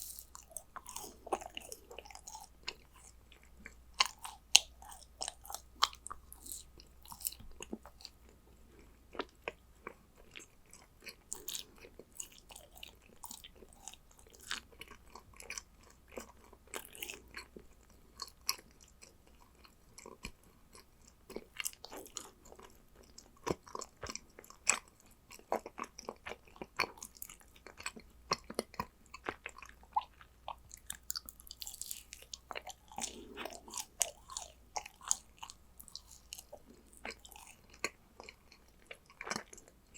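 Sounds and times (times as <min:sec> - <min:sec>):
person chewing sticky cookies: 0:00.0 - 0:39.9.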